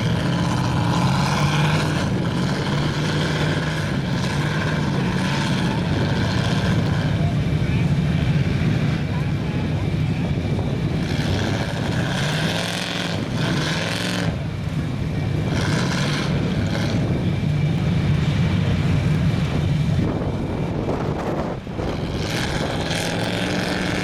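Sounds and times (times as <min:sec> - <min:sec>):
truck engine under load: 0:00.0 - 0:24.0.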